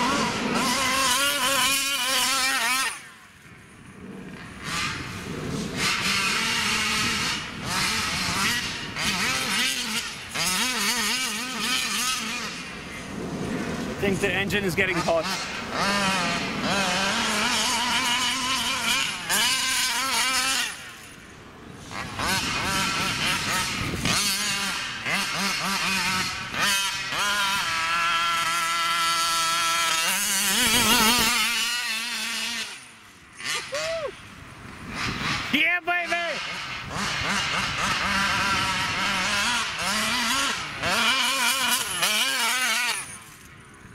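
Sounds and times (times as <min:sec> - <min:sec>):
two-stroke rc car engine revving: 0:00.0 - 0:43.9.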